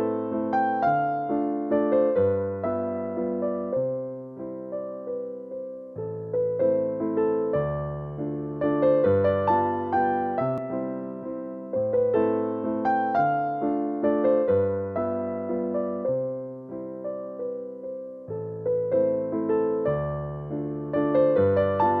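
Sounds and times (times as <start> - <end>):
piano-like keyboard music: 0.0 - 22.0.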